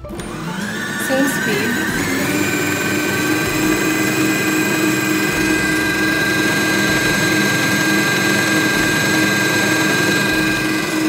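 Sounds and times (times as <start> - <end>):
paddle beating butter in bowl: 0.0 - 11.0
stand mixer motor whine: 0.0 - 11.0.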